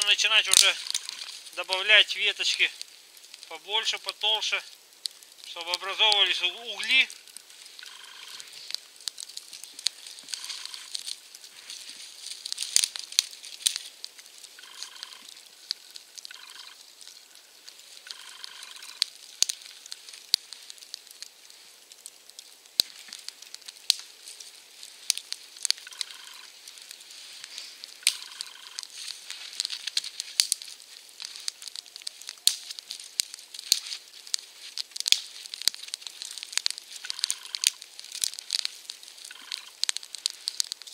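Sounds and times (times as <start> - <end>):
campfire crackling and hissing: 0.0 - 40.9
sharp pops: 0.0 - 40.9.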